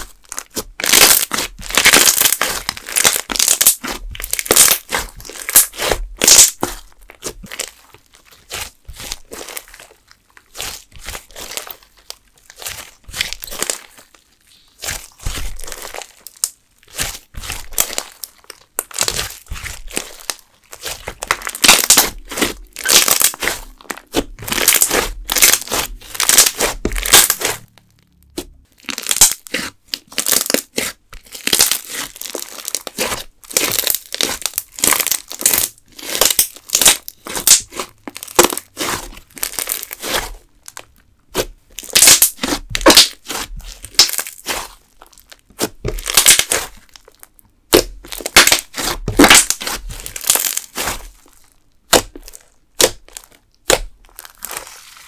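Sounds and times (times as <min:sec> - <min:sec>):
slime squelching and popping: 0:00.0 - 0:55.0.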